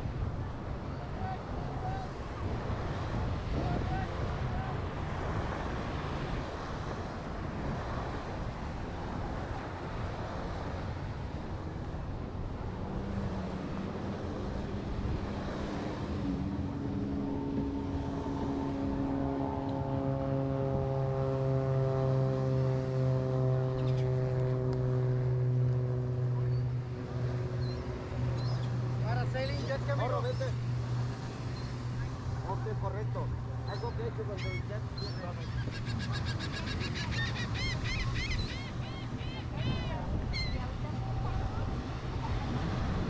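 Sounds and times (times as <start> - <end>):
motor droning: 0.0 - 43.0
surf: 0.0 - 43.0
wind: 0.0 - 43.0.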